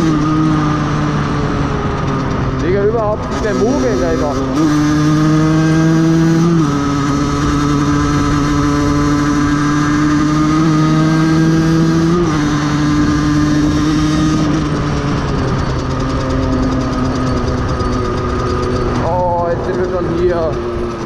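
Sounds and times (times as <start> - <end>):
two-stroke moped engine: 0.0 - 21.0.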